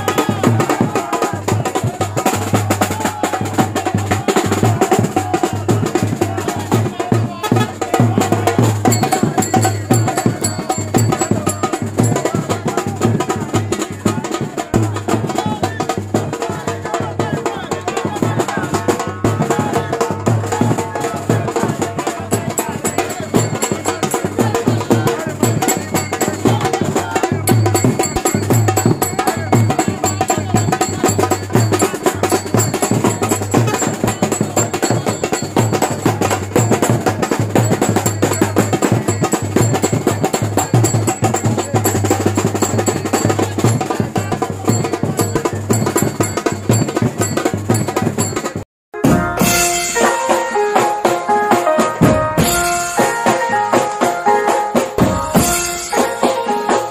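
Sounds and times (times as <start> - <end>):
loud music with fast percussion: 0.0 - 56.9.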